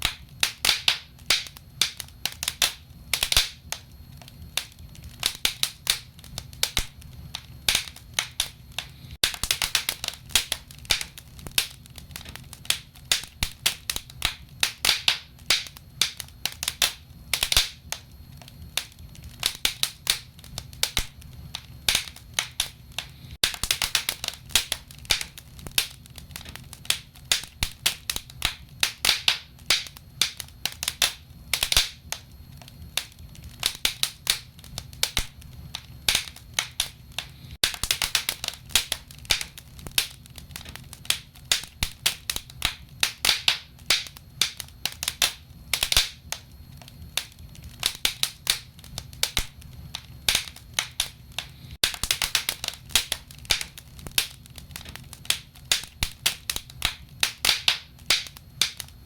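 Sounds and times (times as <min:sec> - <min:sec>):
low rumble of burning logs: 0:00.0 - 0:59.0
wood fire crackling: 0:00.0 - 0:59.0.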